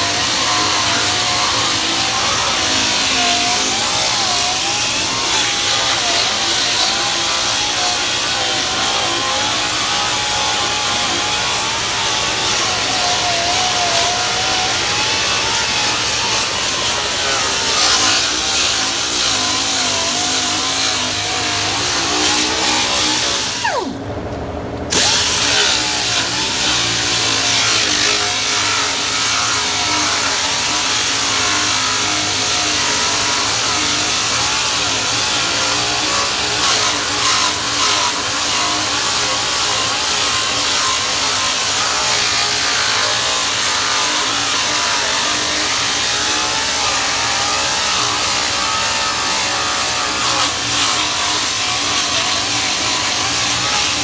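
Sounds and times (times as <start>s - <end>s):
grinder on steel: 0.0s - 24.0s, 24.9s - 54.0s.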